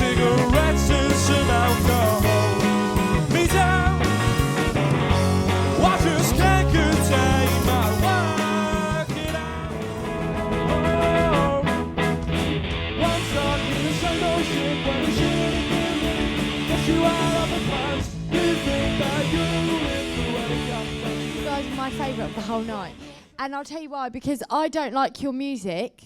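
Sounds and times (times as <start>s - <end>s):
rock band playing: 0.0s - 23.2s
electric guitar: 0.0s - 23.3s.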